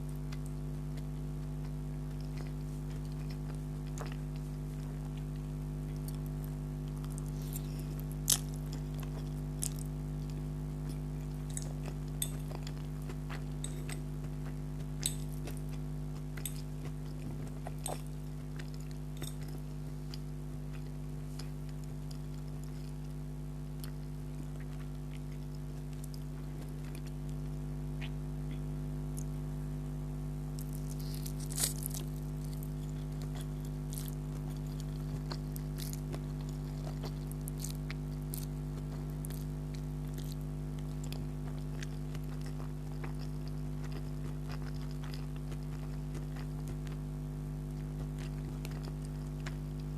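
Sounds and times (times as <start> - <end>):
person chewing: 0.0 - 29.4, 30.5 - 49.9
steady low hum: 0.0 - 49.9.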